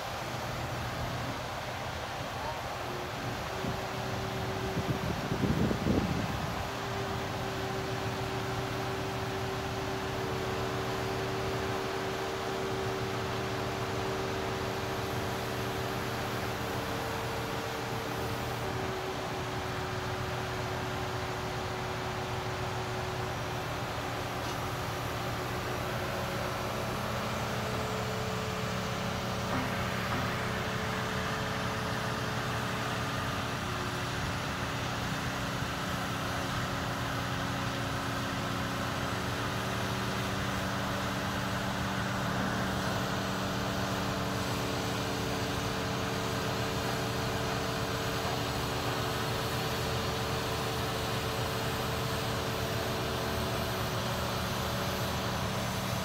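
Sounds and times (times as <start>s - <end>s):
crane diesel engine running: 0.0s - 56.0s.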